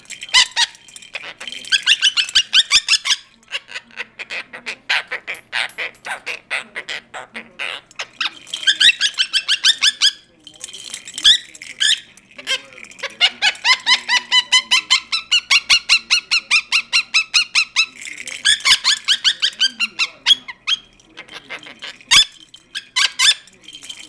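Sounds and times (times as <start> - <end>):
parakeet chattering: 0.0 - 10.3, 11.2 - 23.5.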